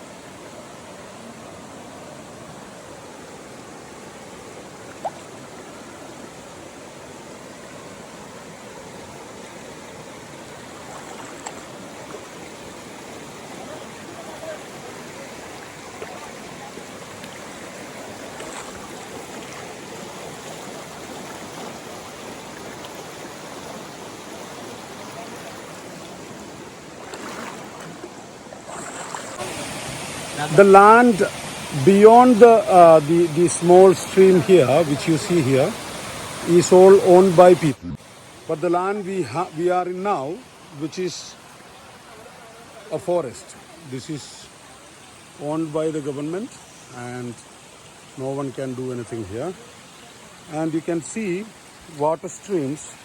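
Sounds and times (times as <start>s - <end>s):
stream water rushing: 0.0s - 53.0s.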